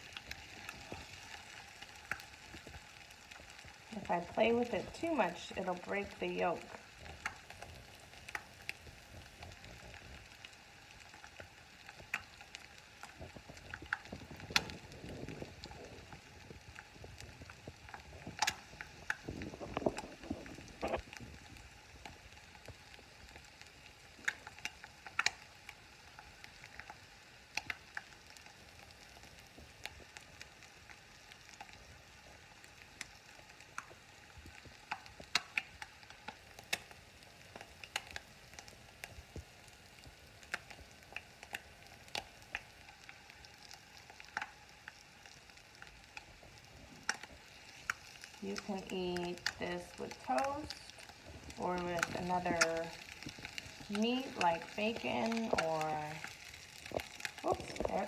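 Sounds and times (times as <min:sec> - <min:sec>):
egg sizzling in frying pan: 0:00.0 - 0:58.0
oil crackling and popping: 0:00.0 - 0:58.0.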